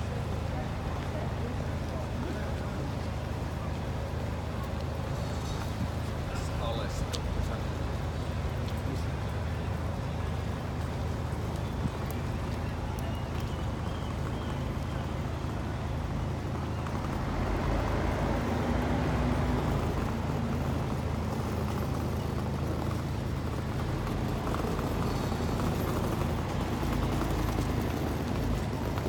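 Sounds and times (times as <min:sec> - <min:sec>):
road roller engine hum: 0:00.0 - 0:29.0
street traffic: 0:00.0 - 0:29.0.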